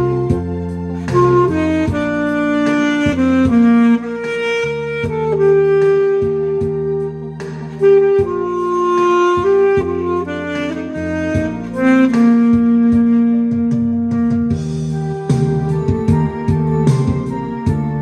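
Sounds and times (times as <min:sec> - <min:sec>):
backing track with bass notes: 0:00.0 - 0:18.0
saxophone ballad melody: 0:00.0 - 0:18.0.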